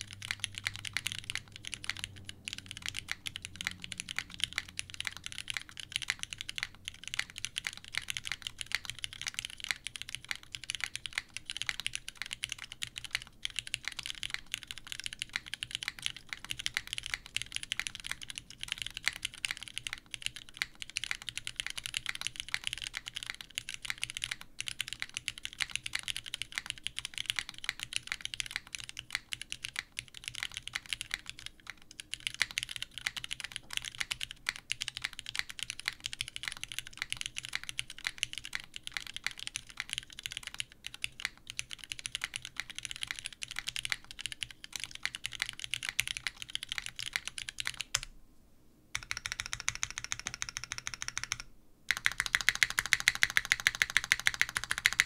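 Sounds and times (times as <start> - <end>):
mechanical keyboard typing: 0.0 - 48.1, 49.0 - 55.0.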